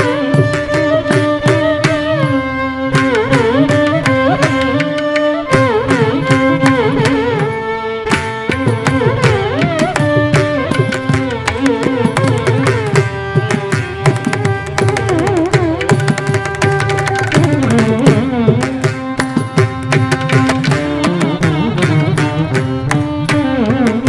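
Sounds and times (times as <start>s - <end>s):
mridangam drum strokes: 0.0s - 24.0s
violins playing ornamented phrases: 0.0s - 24.0s.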